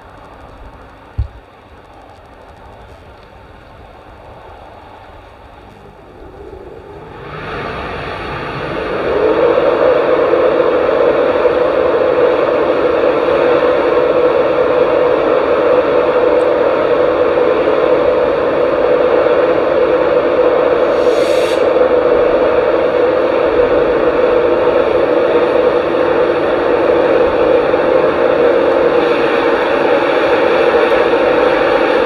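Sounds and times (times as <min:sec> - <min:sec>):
electric locomotive droning: 0:00.0 - 0:32.0.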